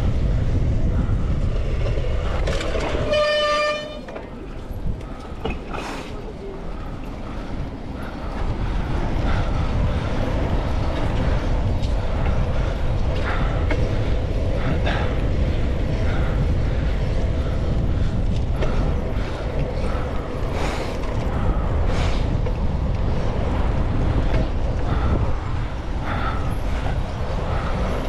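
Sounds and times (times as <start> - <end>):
bicycle riding rumble: 0.0 - 28.0
bicycle parts creaking and clicking: 0.9 - 28.0.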